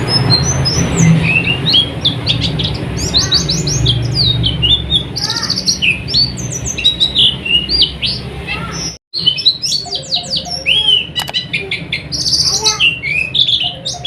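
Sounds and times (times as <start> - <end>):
bird chattering song: 0.0 - 14.0.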